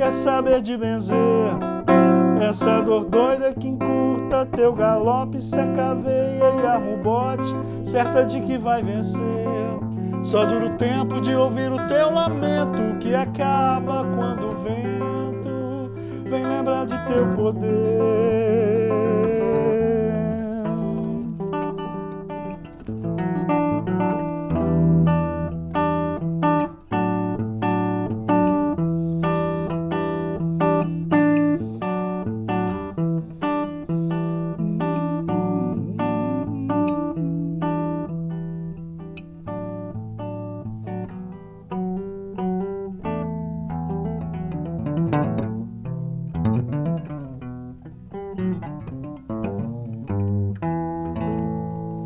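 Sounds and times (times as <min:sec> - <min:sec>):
solo guitar playing: 0:00.0 - 0:52.0.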